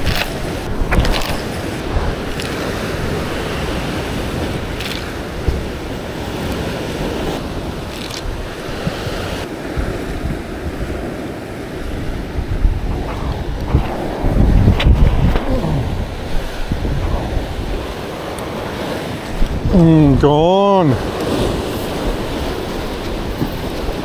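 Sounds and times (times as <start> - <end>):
ocean surf: 0.0 - 24.0
wind buffeting microphone: 0.0 - 24.0.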